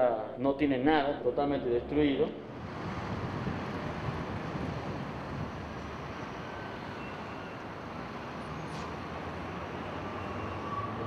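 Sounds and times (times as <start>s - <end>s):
road traffic noise: 1.3s - 11.0s.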